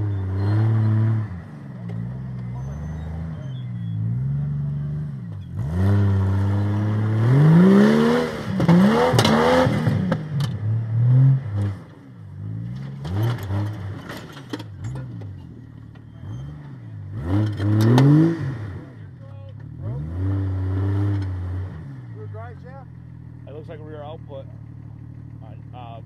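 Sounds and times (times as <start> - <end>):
engine revving under load: 0.0 - 15.3, 16.2 - 24.2.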